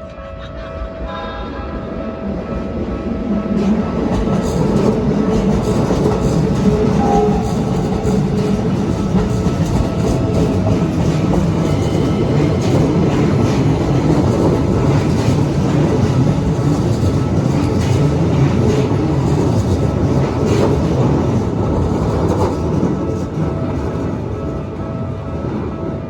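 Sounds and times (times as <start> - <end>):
train wheels rumbling on rail: 2.2 - 26.0.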